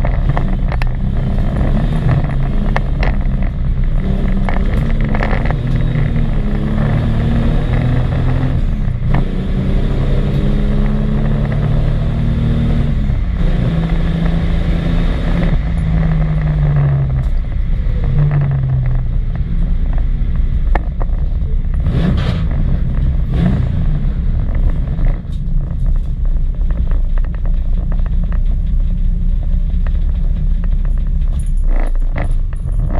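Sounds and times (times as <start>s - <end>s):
engine knocks: 0.0s - 12.2s, 12.8s - 32.9s
car engine revving: 0.0s - 32.9s.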